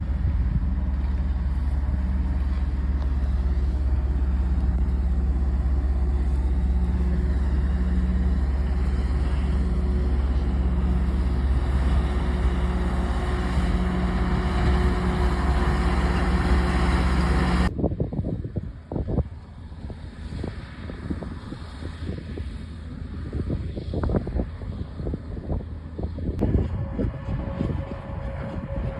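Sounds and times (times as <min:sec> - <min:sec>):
train engine drone: 0:00.0 - 0:28.9.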